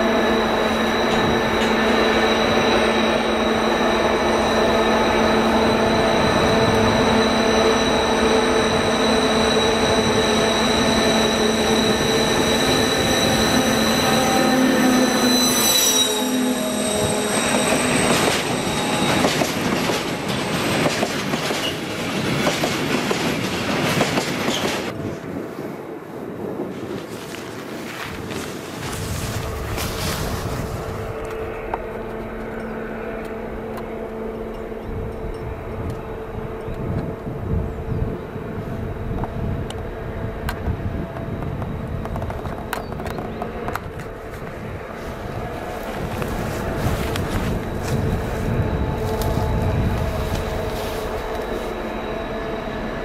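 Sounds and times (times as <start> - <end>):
diesel locomotive engine drone: 0.0 - 53.0
train wheels rumbling on rail: 0.0 - 53.0.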